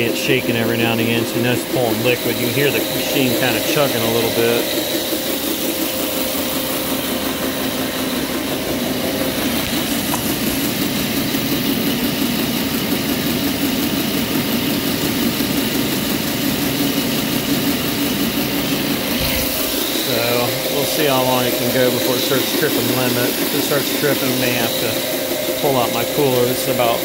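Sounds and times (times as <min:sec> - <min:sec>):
compressor machine chugging: 0:00.0 - 0:27.0.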